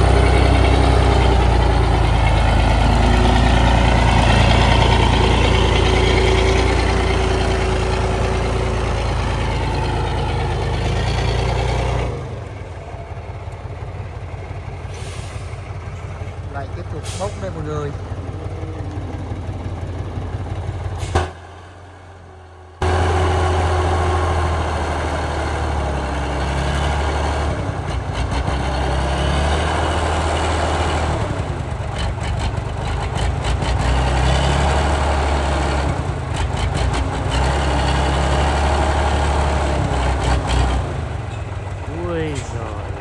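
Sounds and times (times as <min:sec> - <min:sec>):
truck engine humming: 0:00.0 - 0:43.0.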